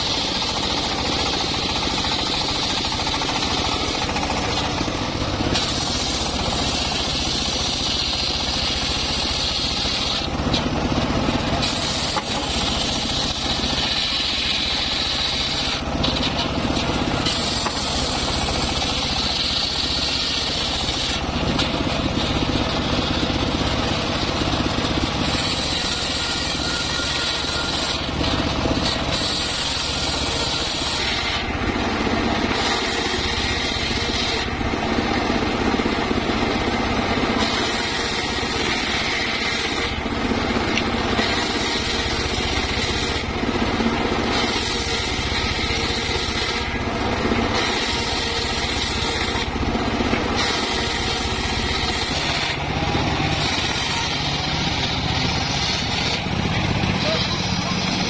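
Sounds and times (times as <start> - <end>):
saw blade cutting wood: 0.0 - 58.0
saw motor drone: 0.0 - 58.0.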